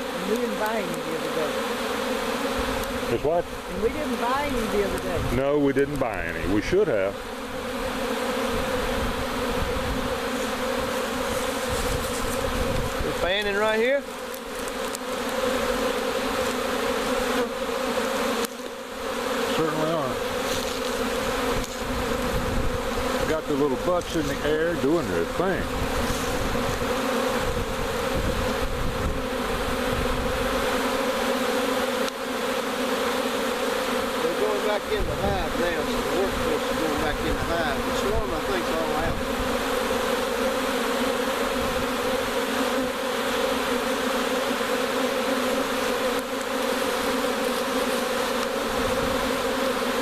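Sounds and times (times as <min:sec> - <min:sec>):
bee swarm buzzing: 0:00.0 - 0:50.0.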